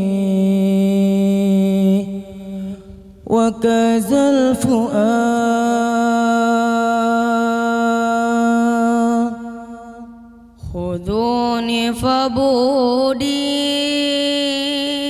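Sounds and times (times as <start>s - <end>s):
man singing unaccompanied: 0.0s - 2.6s, 3.3s - 10.1s, 10.7s - 15.0s.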